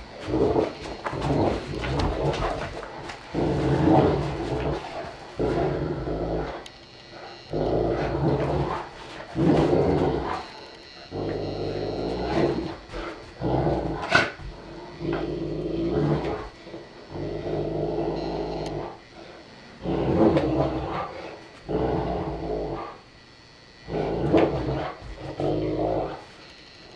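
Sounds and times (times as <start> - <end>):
dogs growling in play: 0.0 - 23.2, 23.8 - 26.6.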